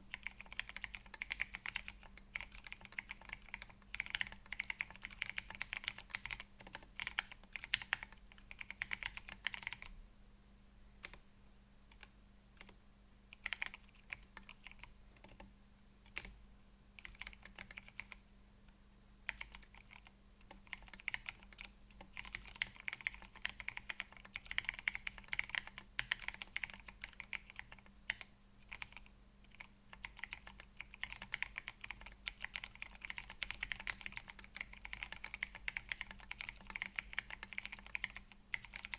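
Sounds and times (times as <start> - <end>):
mechanical keyboard typing: 0.1 - 9.9, 11.9 - 16.4, 17.0 - 18.2, 19.3 - 38.9.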